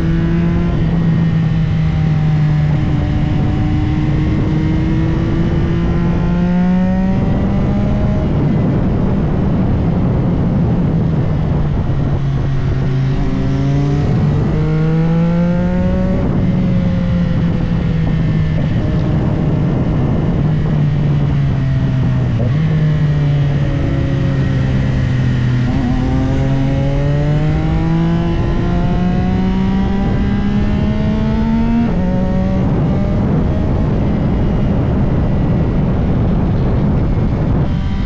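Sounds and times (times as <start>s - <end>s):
motorcycle engine accelerating: 0.0s - 38.0s
wind rush on microphone: 0.0s - 38.0s.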